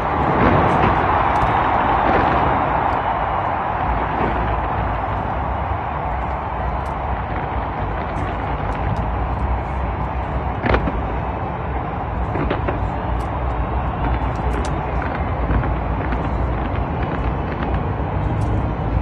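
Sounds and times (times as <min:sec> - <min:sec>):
crowd and city din: 0:00.0 - 0:19.0
fireworks popping and crackling: 0:00.0 - 0:19.0.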